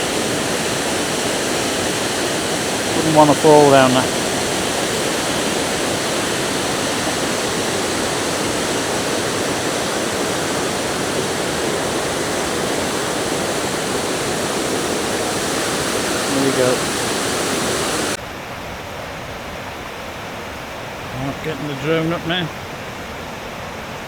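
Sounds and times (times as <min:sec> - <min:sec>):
waterfall rushing: 0:00.0 - 0:18.2, 0:19.7 - 0:24.0.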